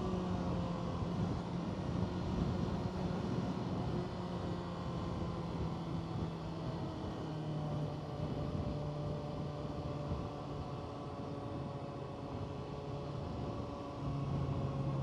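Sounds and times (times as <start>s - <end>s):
riding wind rush: 0.0s - 15.0s.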